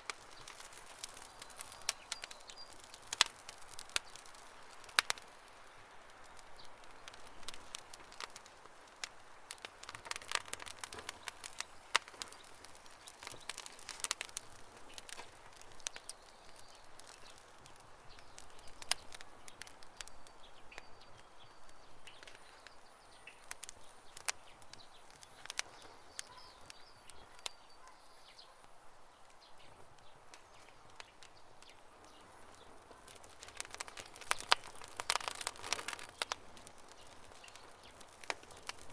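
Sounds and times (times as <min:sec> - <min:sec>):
campfire crackling and popping: 0:00.0 - 0:38.9
hiss of flames: 0:00.0 - 0:38.9.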